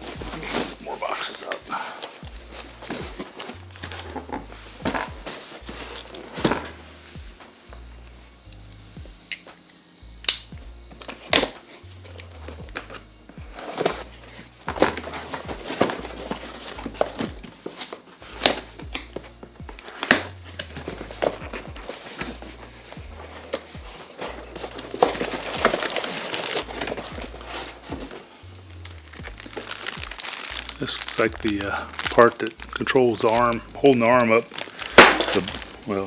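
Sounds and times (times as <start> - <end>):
packaging rustling and crinkling: 0.0 - 7.1, 11.0 - 36.0
background music with bass line: 0.0 - 36.0.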